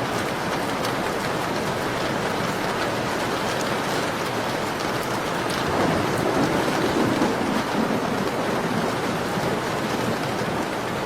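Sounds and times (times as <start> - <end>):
rain on a window: 0.0 - 11.0.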